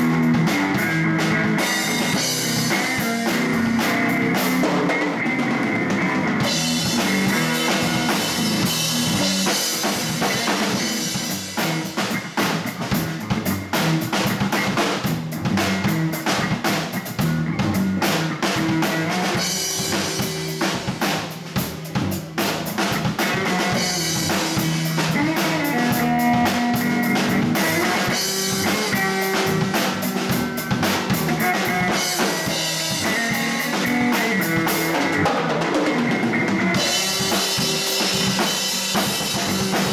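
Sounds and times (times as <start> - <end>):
drum kit: 0.0 - 39.9
live blues band playing: 0.0 - 39.9.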